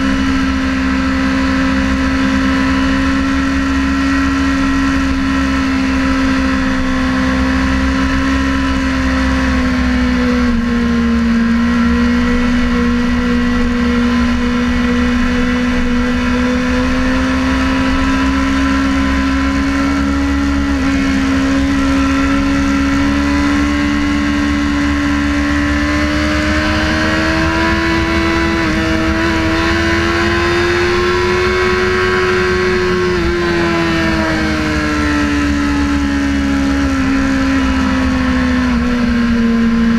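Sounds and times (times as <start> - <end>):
constant low rush: 0.0 - 39.9
motorcycle engine running at speed: 0.0 - 39.9.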